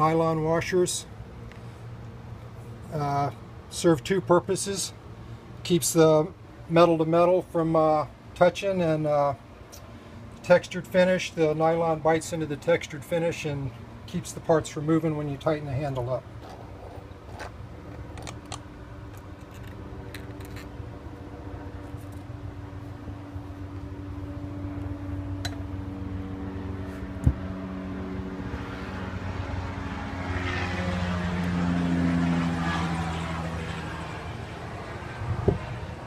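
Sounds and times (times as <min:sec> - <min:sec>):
engine drone: 0:00.0 - 0:36.0.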